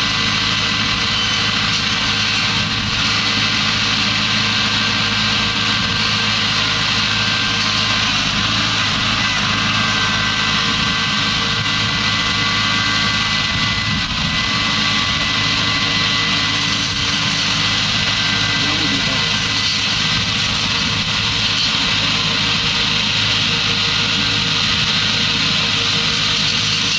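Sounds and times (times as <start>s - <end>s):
high whine: 0.0s - 26.9s
tractor engine running: 0.0s - 26.9s.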